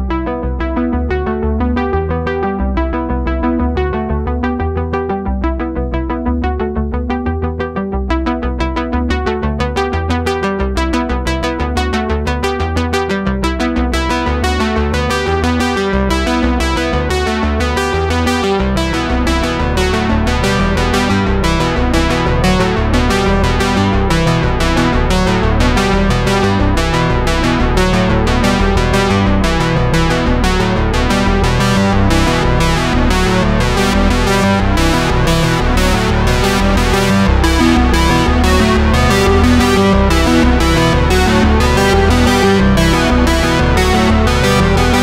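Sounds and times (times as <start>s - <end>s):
pulsing chords music: 0.0s - 45.0s
sustained low bass line: 0.0s - 45.0s.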